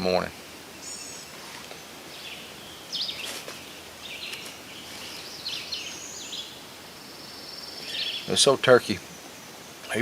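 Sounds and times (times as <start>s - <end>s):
faint background noise: 0.0s - 10.0s
songbirds chirping: 0.0s - 10.0s.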